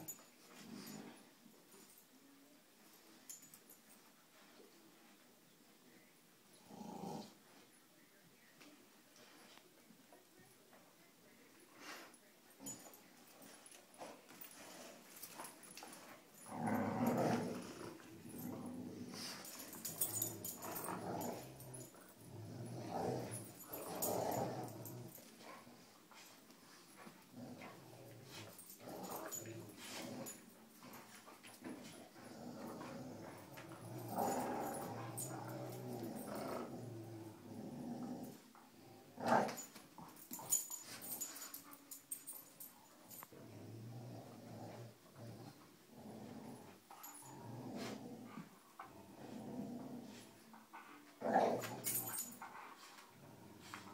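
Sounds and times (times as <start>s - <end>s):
dogs play-growling: 0.0s - 2.0s, 6.5s - 7.6s, 11.8s - 53.9s.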